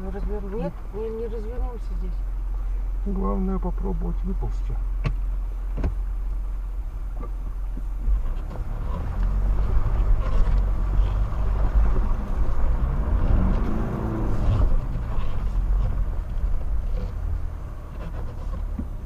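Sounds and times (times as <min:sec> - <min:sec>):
car engine straining: 0:00.0 - 0:19.0.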